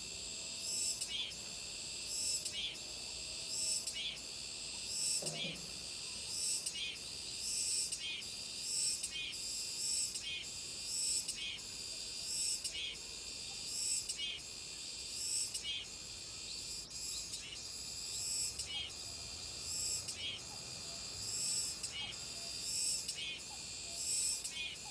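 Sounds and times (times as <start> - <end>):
cicadas buzzing: 0.0 - 24.9.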